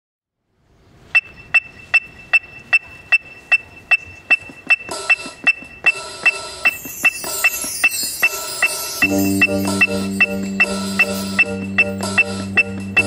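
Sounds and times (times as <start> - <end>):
sharp woodblock-like ticking: 1.2 - 13.0
sustained held notes: 1.4 - 13.0.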